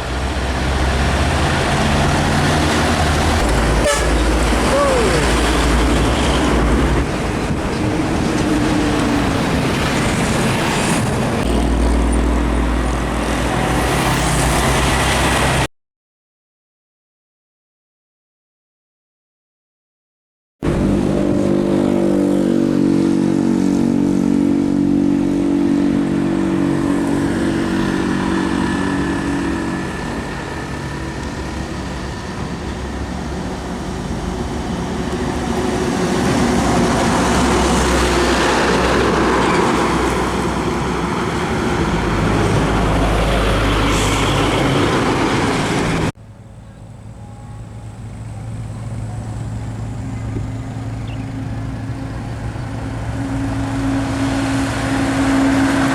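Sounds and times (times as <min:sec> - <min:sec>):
heavy trucks driving past: 0:00.0 - 0:15.7, 0:20.6 - 0:55.9.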